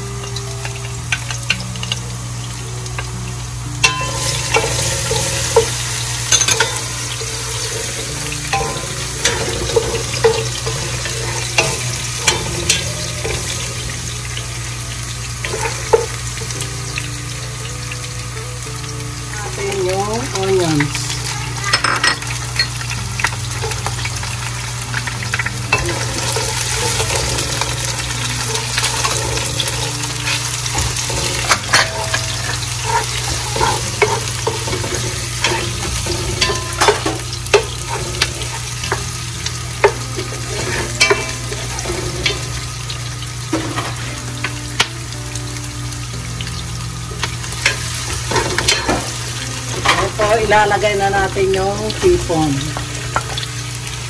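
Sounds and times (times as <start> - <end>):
garlic and onion sizzling in oil: 0.0 - 54.0.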